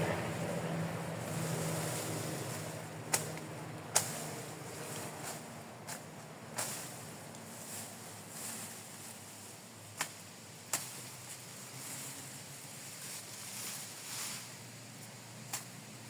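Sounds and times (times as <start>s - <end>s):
wind-blown grass rustling: 0.0s - 16.0s.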